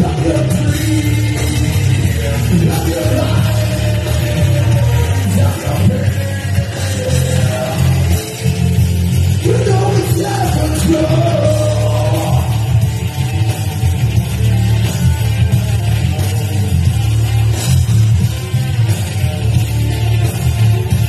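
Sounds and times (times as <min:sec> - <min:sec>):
person singing: 0:00.0 - 0:17.6
heavy bass line: 0:00.0 - 0:21.0
live rock band playing: 0:00.0 - 0:21.0.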